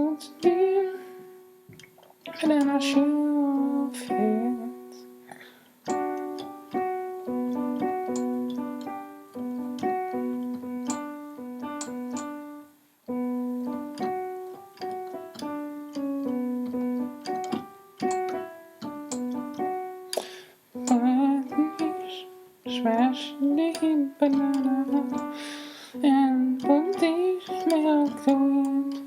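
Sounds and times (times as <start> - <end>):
piano keyboard tune: 0.0 - 29.0.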